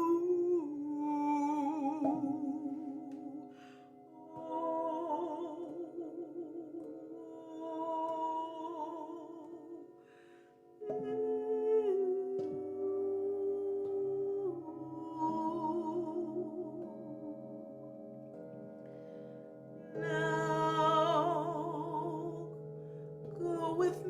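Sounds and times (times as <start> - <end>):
woman singing wordless held notes: 0.0 - 10.0, 10.8 - 17.5, 20.0 - 22.6, 23.2 - 24.0
steady sustained tones: 0.0 - 24.0.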